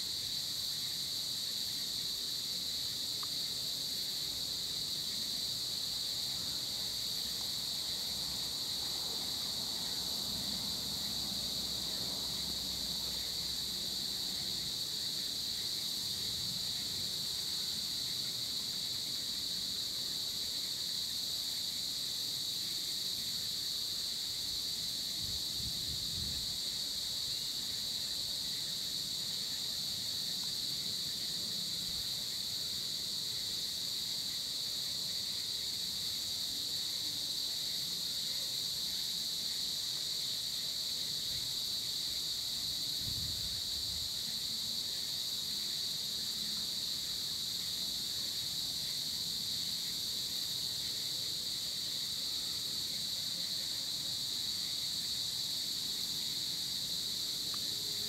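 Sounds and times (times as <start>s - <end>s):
insect chorus shrill drone: 0.0s - 58.0s.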